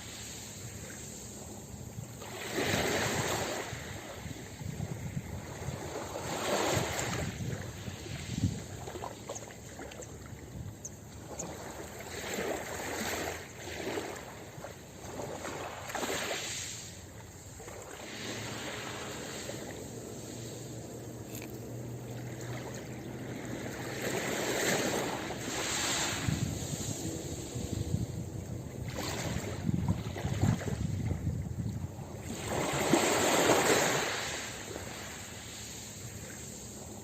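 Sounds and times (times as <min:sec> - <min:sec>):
ocean waves washing on beach: 0:00.0 - 0:37.0.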